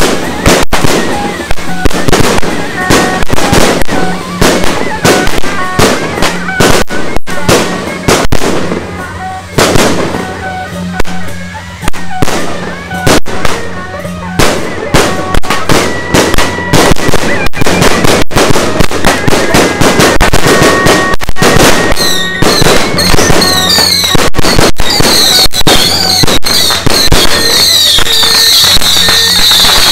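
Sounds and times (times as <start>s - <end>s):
falling firework whistles: 0.0s - 29.9s
firecrackers banging: 0.0s - 29.9s
melody of short stepped tones: 0.0s - 29.9s.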